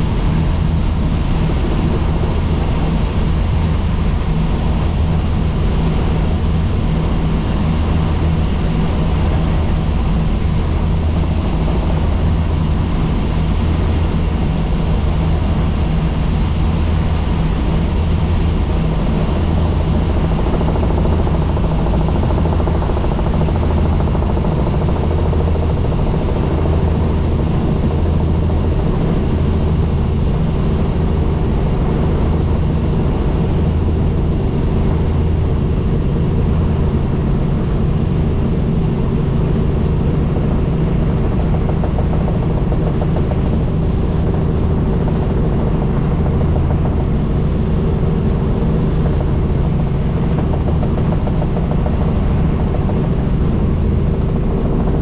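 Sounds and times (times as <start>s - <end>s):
helicopter rotor and turbine drone: 0.0s - 55.0s.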